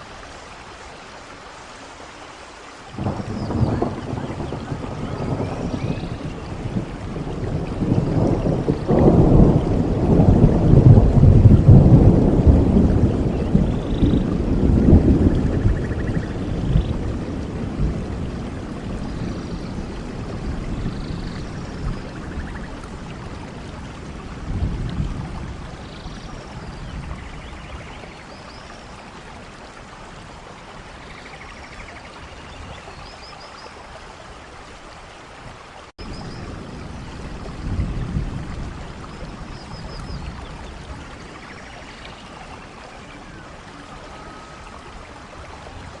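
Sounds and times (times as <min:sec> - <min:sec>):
rain falling in forest: 0:00.0 - 0:46.0.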